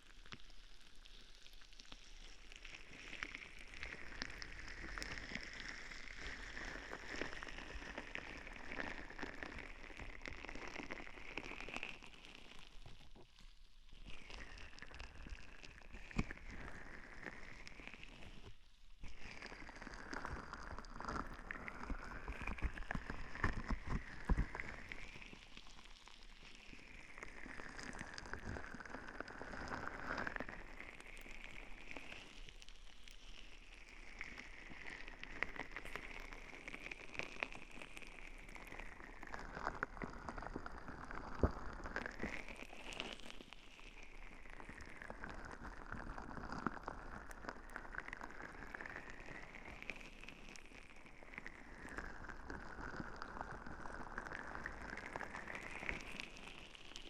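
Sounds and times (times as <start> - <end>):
crackly rubbing on microphone: 0.0 - 57.0.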